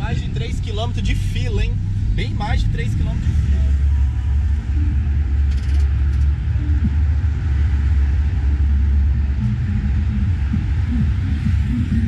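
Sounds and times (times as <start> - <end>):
low rumble of cars: 0.0 - 12.0.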